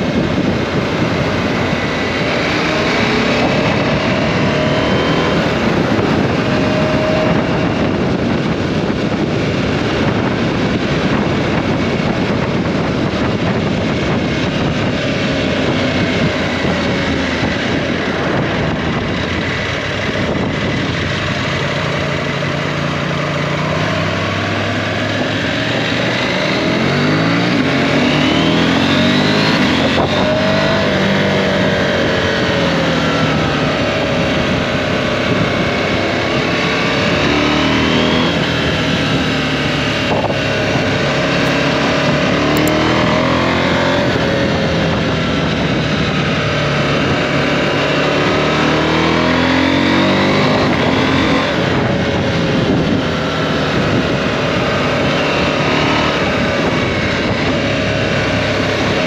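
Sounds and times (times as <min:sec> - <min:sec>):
motorcycle engine revving: 0:00.0 - 0:59.0
wind rushing: 0:00.0 - 0:59.0.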